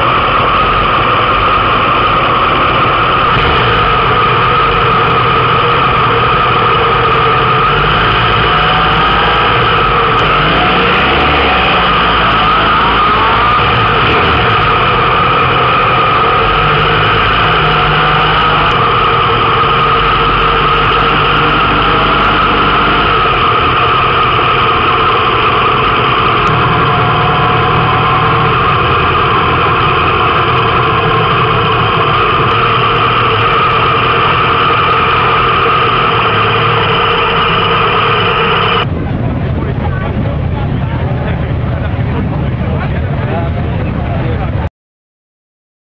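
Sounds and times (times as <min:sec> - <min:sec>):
motorcycle engines running: 0:00.0 - 0:44.7
motorcycles idling: 0:00.0 - 0:44.7.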